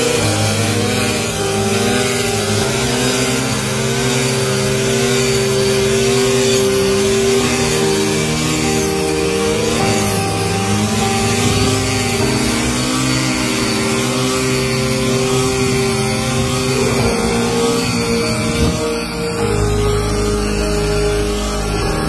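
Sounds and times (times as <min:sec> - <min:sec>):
small petrol engine running: 0:00.0 - 0:22.0.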